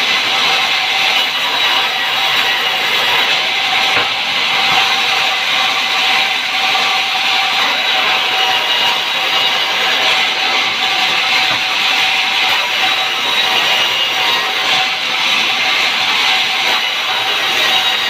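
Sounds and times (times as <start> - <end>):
saw cutting through log: 0.0 - 18.0.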